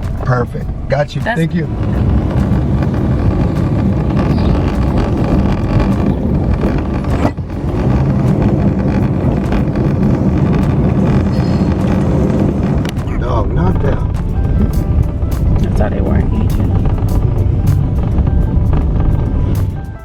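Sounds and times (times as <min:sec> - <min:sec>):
car road and engine noise: 0:00.0 - 0:20.0
wind buffeting microphone: 0:00.0 - 0:20.0.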